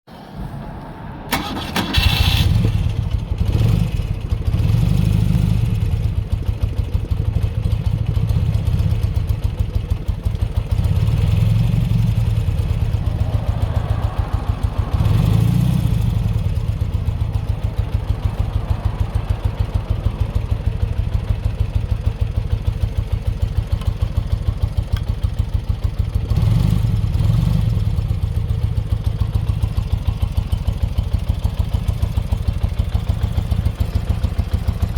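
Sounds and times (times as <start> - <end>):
motorcycle engine starting and idling: 1.3 - 34.9.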